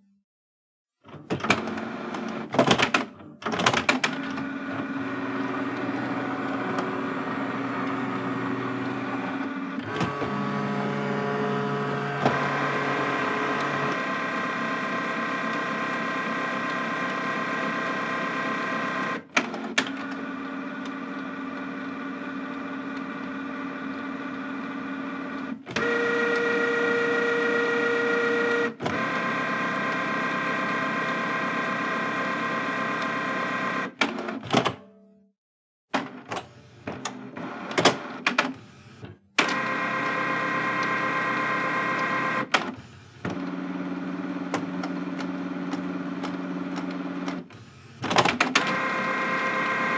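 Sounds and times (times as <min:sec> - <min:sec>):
office machine electric hum: 0:01.1 - 0:34.6, 0:36.1 - 0:49.9.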